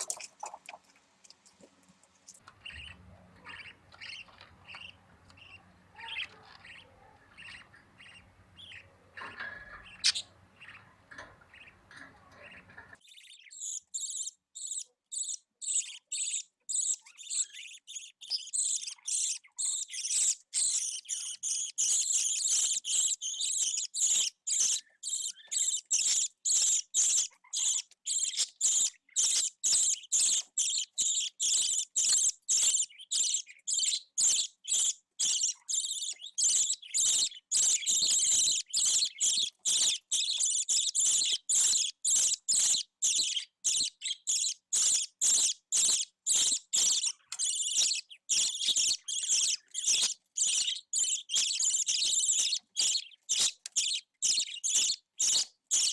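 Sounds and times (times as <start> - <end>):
budgerigar chick chirping: 0.0 - 55.9.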